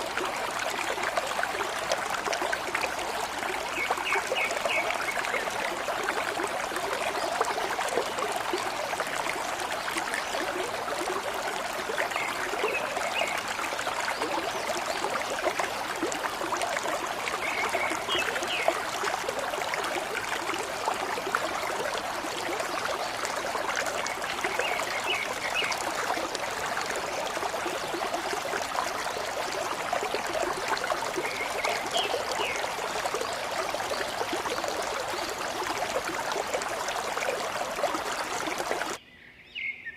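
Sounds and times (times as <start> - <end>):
stream gurgling: 0.0 - 39.0.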